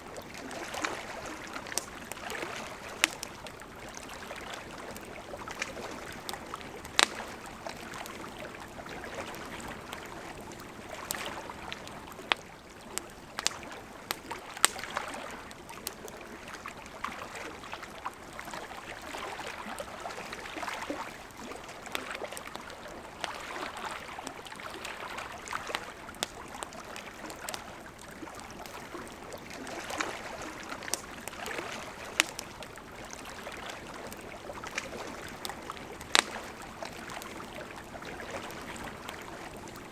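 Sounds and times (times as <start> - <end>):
campfire wood crackling: 0.0 - 39.9
gently flowing river: 0.0 - 39.9.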